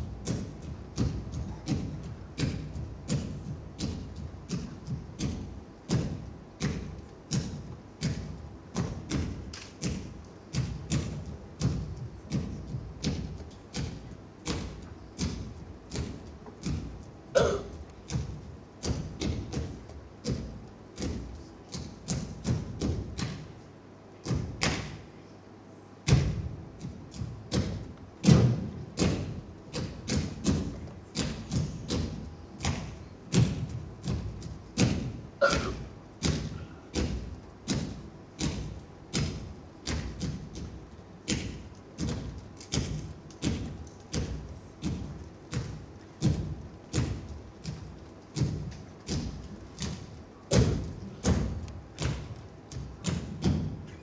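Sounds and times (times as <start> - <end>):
bare feet stamping on stage floor: 0.0 - 23.6, 24.2 - 25.1, 26.1 - 54.0.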